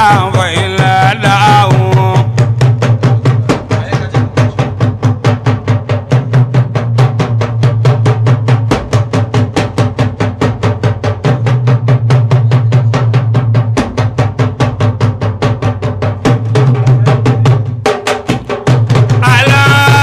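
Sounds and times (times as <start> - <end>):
fast even drumming: 0.0 - 20.0.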